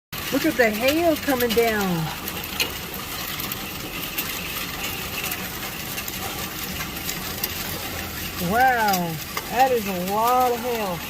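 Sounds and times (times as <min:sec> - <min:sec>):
hail falling and clicking: 0:00.2 - 0:11.0.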